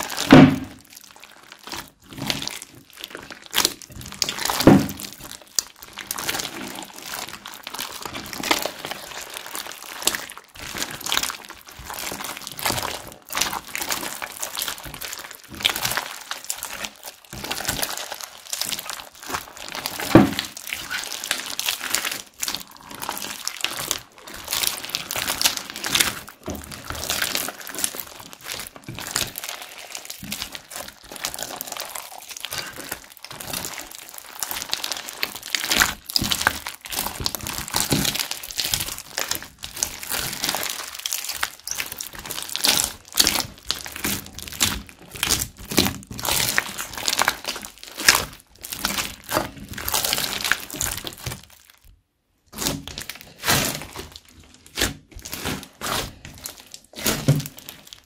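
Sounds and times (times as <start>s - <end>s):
slime popping: 0.0s - 51.9s, 52.5s - 58.0s
crunchy slime crackling and squishing: 0.0s - 58.0s.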